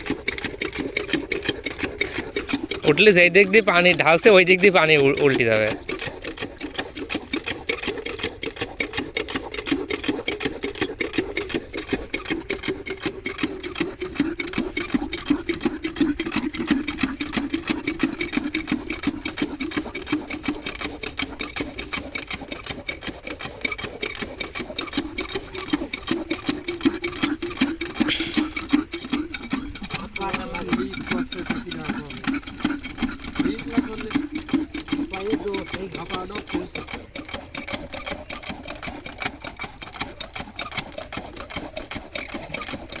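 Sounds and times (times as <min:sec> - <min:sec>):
diesel pump engine running: 0:00.0 - 0:23.7, 0:24.6 - 0:39.9.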